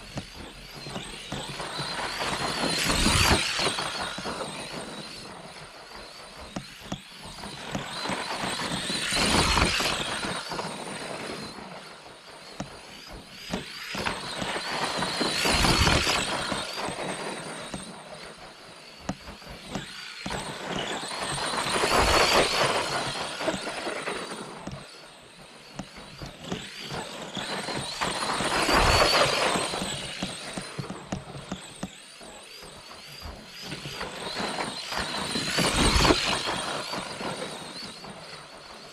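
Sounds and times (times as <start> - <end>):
toy truck motor and gear whine: 0.0 - 38.9.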